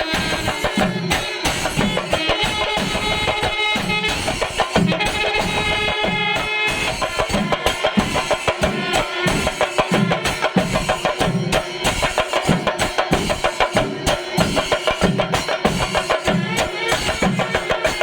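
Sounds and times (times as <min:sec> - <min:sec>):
drum ensemble playing: 0:00.0 - 0:18.0.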